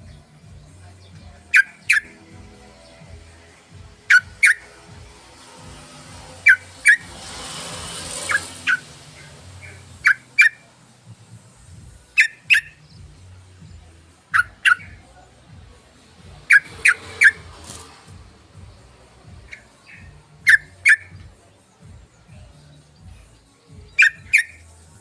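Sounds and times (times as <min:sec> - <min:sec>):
bird chirping: 0:00.0 - 0:15.3, 0:16.0 - 0:25.0.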